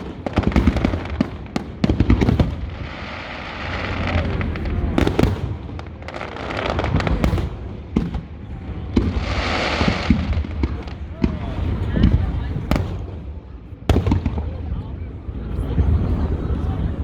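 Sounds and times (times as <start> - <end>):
fireworks crackling: 0.0 - 14.7.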